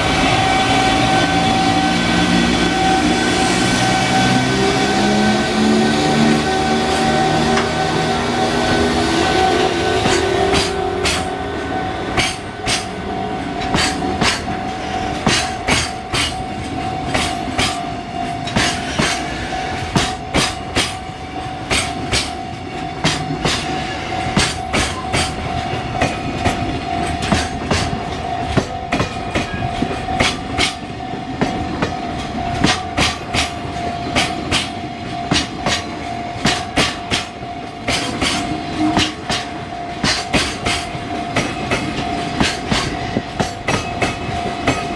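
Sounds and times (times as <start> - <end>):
level crossing alarm ringing: 0.0 - 44.9
train rumble: 0.0 - 44.9
train wheels clicking over rail joints: 8.5 - 44.9.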